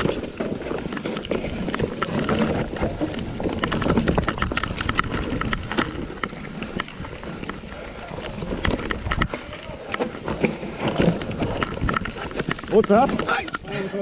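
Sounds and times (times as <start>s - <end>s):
bike clicks and knocks: 0.0s - 13.7s
tyre and wind noise: 0.0s - 14.0s.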